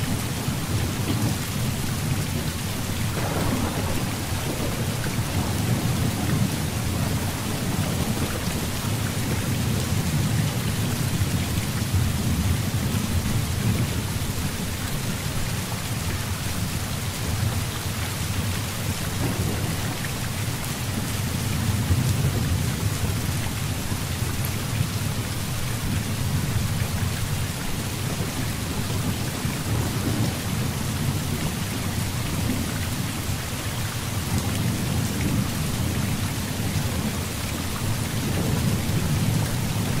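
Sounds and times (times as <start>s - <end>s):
heavy rain falling: 0.0s - 40.0s
low rolling thunder: 0.1s - 14.2s, 18.8s - 32.9s, 34.2s - 40.0s.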